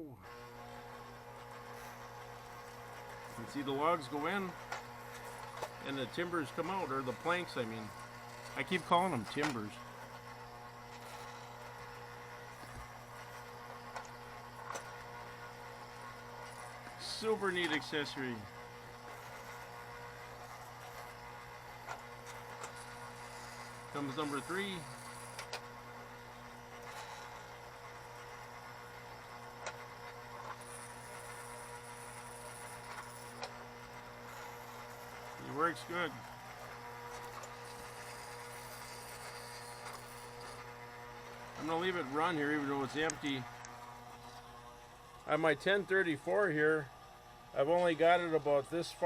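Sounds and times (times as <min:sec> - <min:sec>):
low mechanical buzz: 0:00.0 - 0:49.0
steady electric hum: 0:00.0 - 0:49.0.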